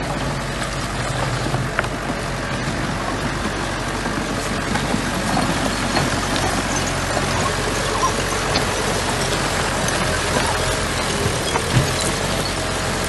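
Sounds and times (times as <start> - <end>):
bulldozer engine running: 0.0 - 13.0.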